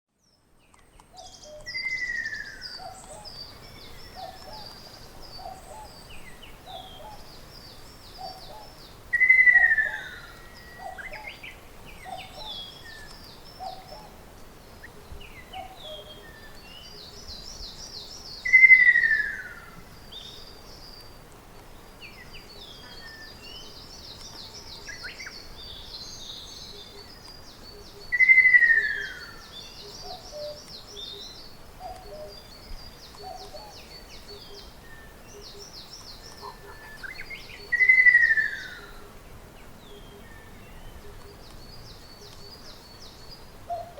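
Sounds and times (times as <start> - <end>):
birds twittering: 0.2 - 43.9.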